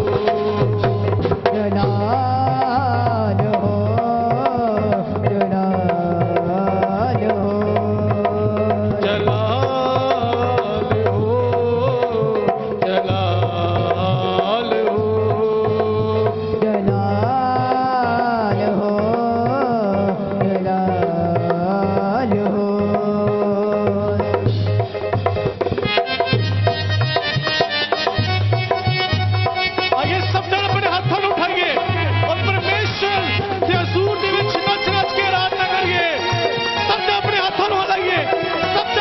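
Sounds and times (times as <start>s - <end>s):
ornamented melody line: 0.0s - 39.0s
steady drum rhythm: 0.0s - 39.0s.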